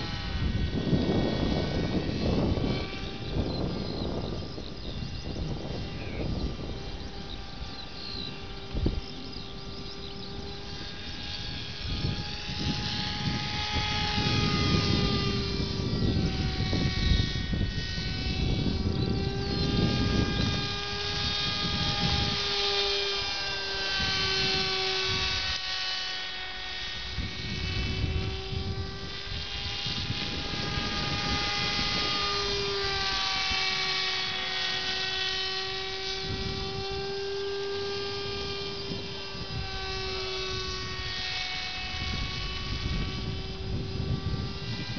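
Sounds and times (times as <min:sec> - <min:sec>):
model airplane motor buzzing: 0:00.0 - 0:44.9
wind rumbling on microphone: 0:00.0 - 0:44.9.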